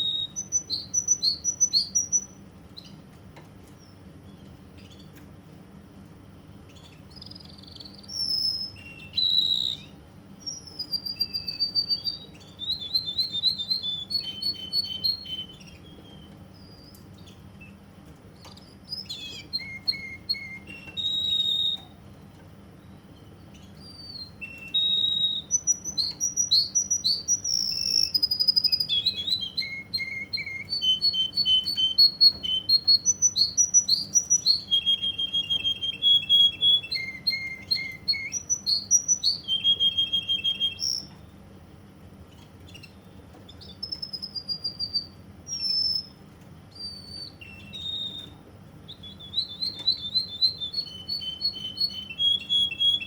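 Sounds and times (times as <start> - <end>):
canary singing trills: 0.0 - 41.5, 42.1 - 53.0
steady low hum: 0.0 - 53.0.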